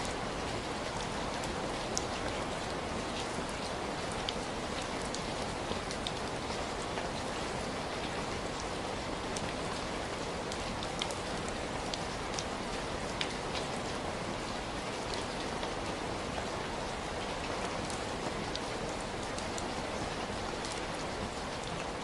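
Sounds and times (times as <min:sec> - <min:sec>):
heavy rain falling: 0:00.0 - 0:22.0
raindrops ticking on surface: 0:00.0 - 0:22.0.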